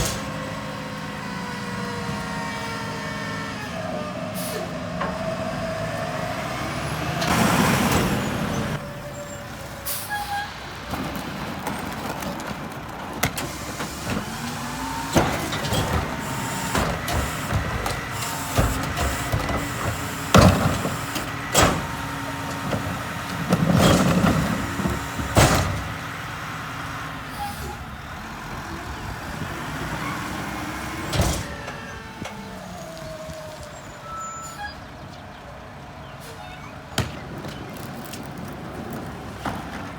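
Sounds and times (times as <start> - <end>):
trash bangs and clanks: 0.0 - 8.9, 9.9 - 27.9, 29.3 - 34.7, 36.3 - 39.9
garbage truck engine running: 0.0 - 39.9.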